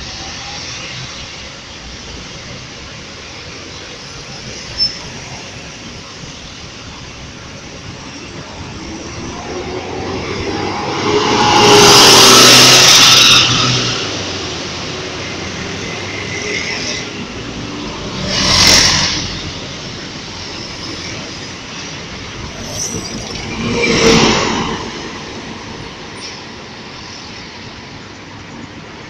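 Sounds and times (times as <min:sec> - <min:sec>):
bus passing with loud hiss: 0:00.0 - 0:29.0
traffic noise: 0:00.0 - 0:29.0.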